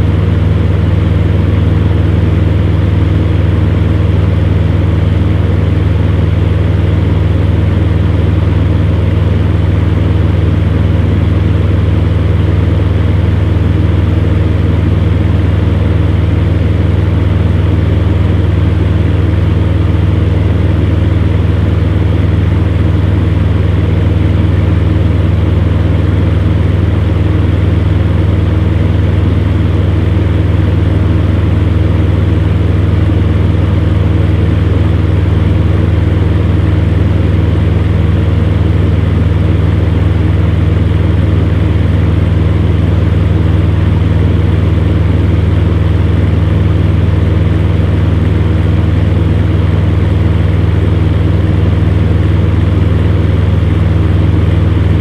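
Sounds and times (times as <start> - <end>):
fan heater humming: 0.0 - 55.0.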